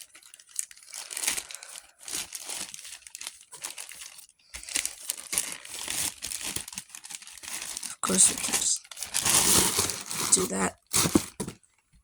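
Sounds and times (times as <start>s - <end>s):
packaging crinkling and tearing: 0.0s - 11.6s.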